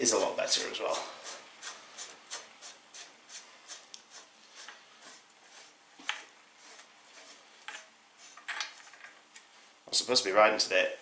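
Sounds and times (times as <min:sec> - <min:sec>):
soft rhythmic scraping of threads: 0:00.0 - 0:09.9.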